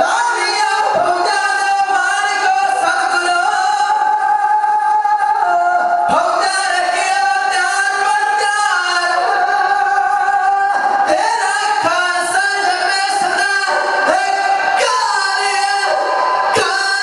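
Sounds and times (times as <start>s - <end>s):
men singing devotional song: 0.0s - 17.0s.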